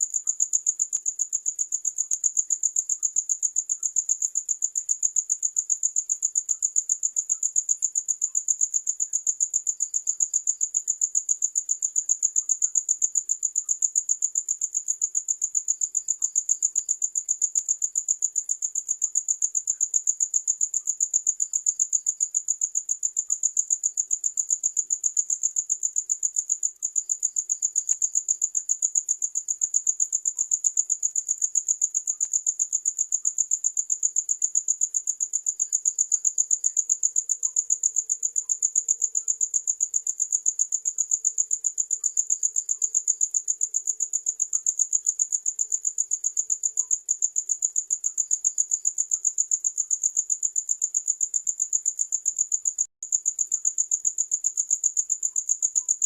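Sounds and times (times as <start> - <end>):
faint lower cricket chirping: 0.0 - 56.0
high-pitched cricket chirping: 0.0 - 56.0.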